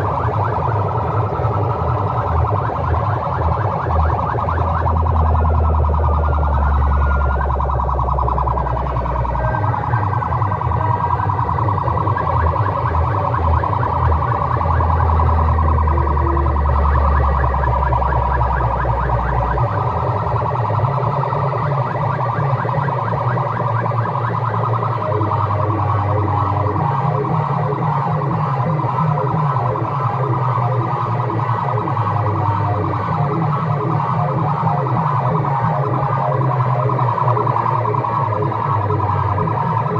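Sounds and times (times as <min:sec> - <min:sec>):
deep bass: 0:00.0 - 0:39.9
loud electronic dance music: 0:00.0 - 0:39.9
siren-like electronic effects: 0:00.0 - 0:39.9.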